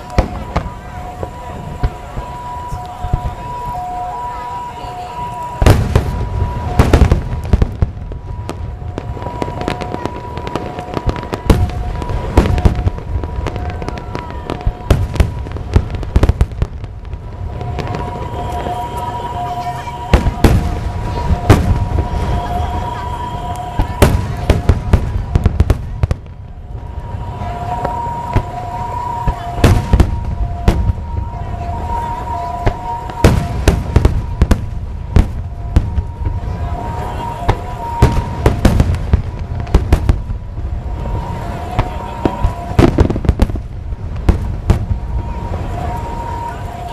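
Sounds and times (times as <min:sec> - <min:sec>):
continuous low rumble: 0:00.0 - 0:46.9
fireworks bangs and crackles: 0:00.0 - 0:46.9.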